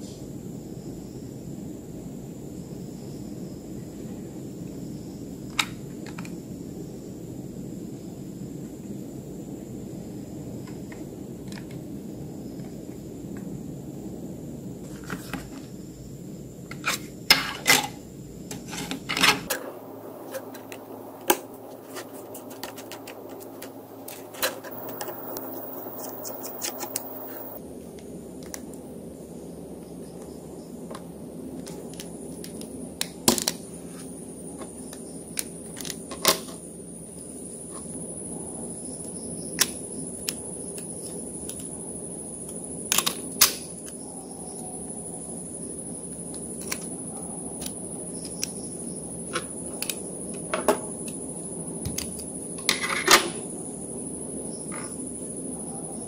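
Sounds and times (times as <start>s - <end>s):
low background noise: 0.0s - 56.0s.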